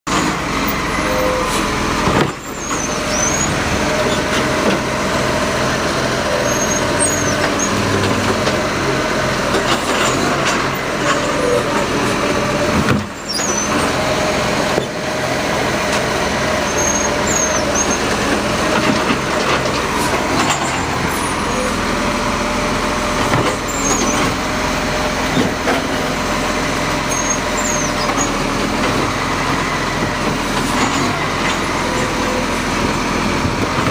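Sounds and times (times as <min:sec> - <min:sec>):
garbage truck engine running: 0:00.0 - 0:33.9.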